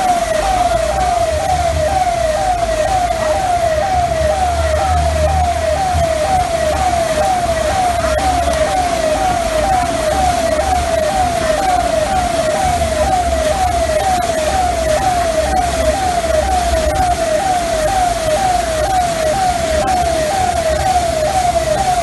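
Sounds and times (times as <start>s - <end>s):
siren falling tone: 0.0s - 22.0s.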